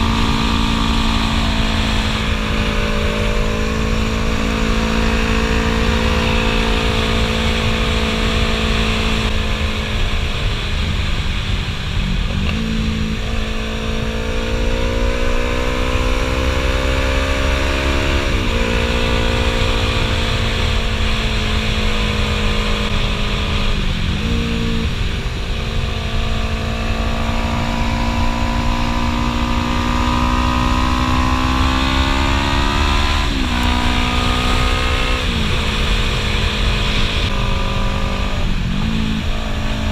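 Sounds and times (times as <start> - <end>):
low wind rumble: 0.0 - 39.9
motorcycle engine revving: 0.0 - 39.9.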